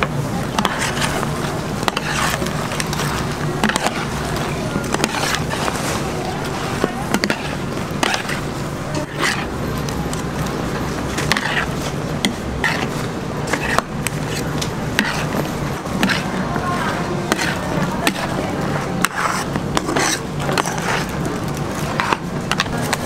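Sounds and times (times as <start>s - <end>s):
steady low hum: 0.0s - 23.0s
plastic scoop scraping steel tray: 0.5s - 9.5s, 11.2s - 21.2s.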